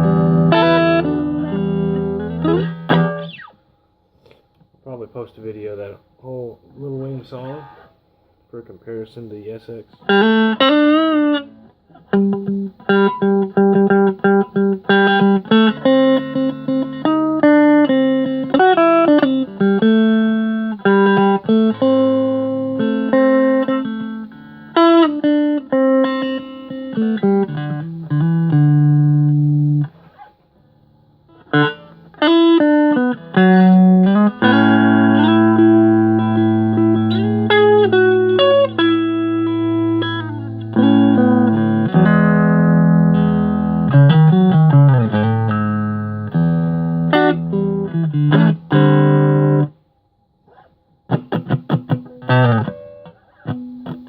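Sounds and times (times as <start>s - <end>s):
electric guitar playing: 0.0s - 3.7s, 6.4s - 8.0s, 9.9s - 49.8s, 50.4s - 54.0s.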